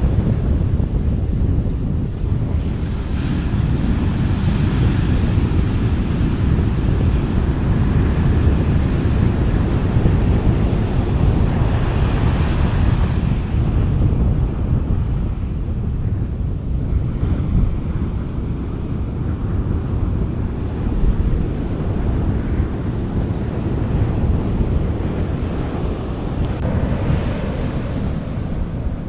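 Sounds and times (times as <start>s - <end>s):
low rumble of wind on microphone: 0.0s - 29.0s
sea waves washing onto beach: 0.0s - 29.0s.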